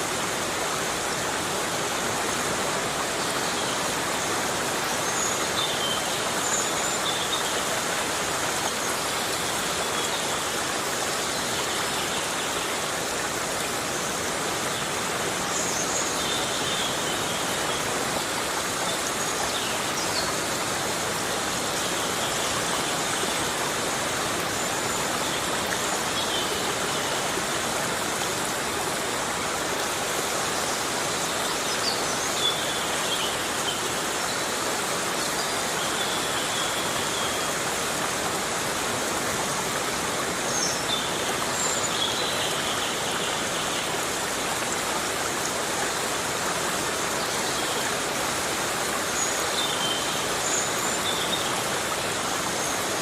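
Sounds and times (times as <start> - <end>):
heavy rain hiss: 0.0 - 53.0.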